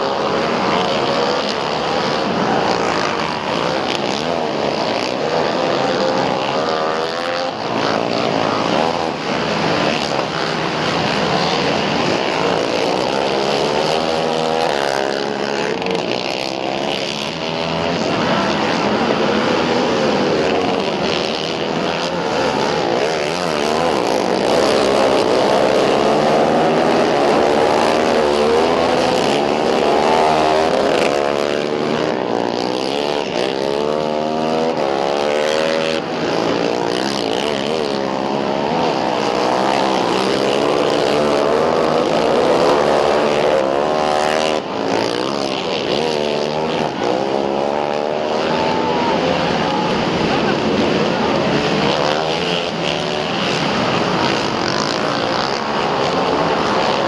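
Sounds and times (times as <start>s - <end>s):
racing quad engines revving: 0.0s - 57.0s.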